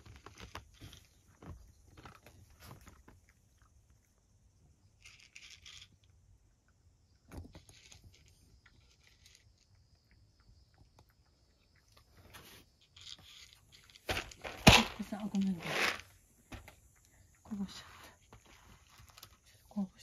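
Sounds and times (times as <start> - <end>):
cat crunching dry kibble: 0.0 - 17.2, 18.2 - 19.6.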